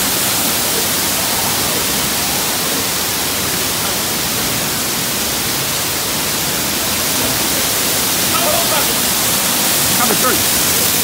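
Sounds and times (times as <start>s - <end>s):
waterfall pouring over rocks: 0.0s - 11.0s.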